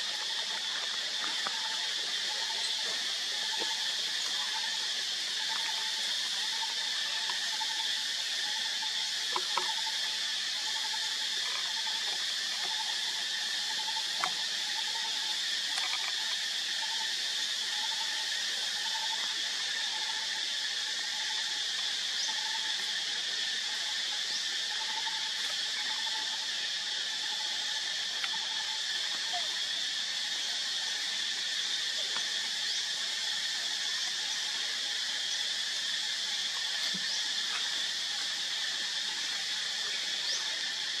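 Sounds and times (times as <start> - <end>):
high-pitched insect chorus: 0.0 - 41.0.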